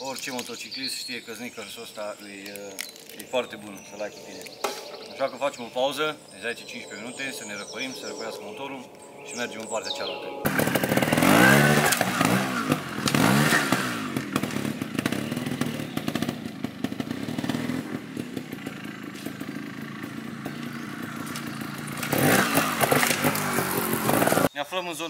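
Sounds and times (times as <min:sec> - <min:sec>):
motorcycle engine revving: 0:01.5 - 0:24.5.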